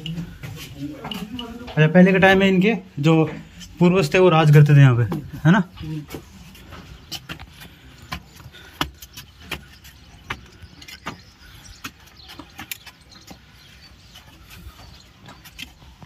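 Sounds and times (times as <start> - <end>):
footsteps in sandals on stone: 0.0 - 16.0.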